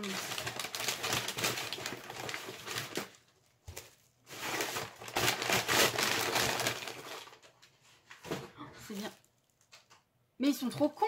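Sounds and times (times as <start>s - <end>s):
paper packaging crinkling: 0.0s - 9.8s.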